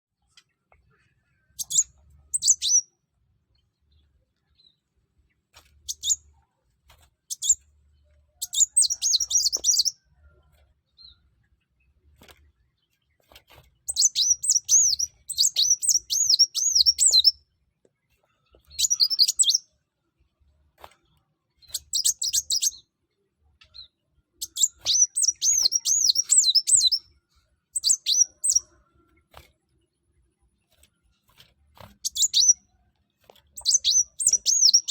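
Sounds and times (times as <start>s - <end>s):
bird twittering song: 0.3s - 6.4s, 7.3s - 19.8s, 21.0s - 30.0s, 30.6s - 32.8s, 33.4s - 34.9s.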